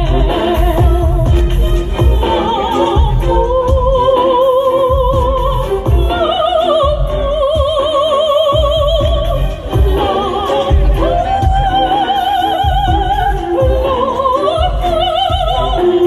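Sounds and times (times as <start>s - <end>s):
instrumental accompaniment with beat: 0.0s - 16.0s
soprano voices singing operatically: 0.0s - 16.0s.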